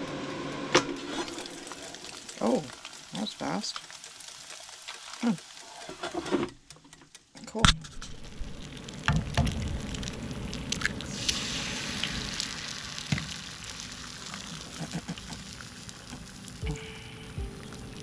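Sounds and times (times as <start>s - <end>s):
eggs sizzling in a skillet: 0.1s - 6.8s, 8.0s - 18.0s.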